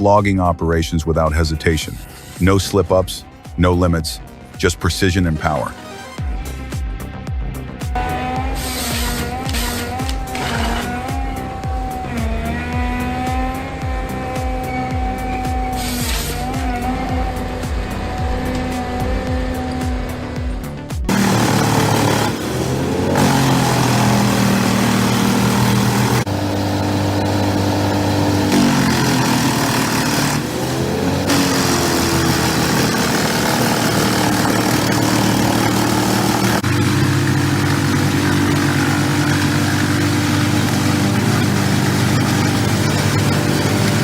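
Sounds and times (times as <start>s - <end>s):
heavy machine engine running: 8.0s - 44.0s.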